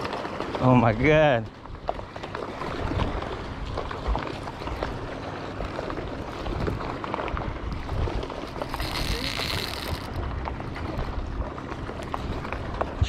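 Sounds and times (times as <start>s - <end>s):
water moving against boat: 0.0s - 13.0s
wind buffeting microphone: 0.0s - 13.0s.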